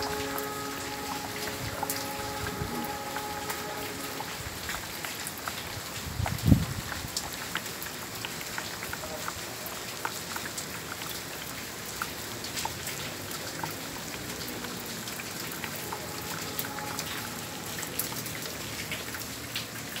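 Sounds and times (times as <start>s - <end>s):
heavy rain hissing: 0.0s - 8.0s, 11.8s - 20.0s
sharp raindrop clicks: 0.0s - 20.0s.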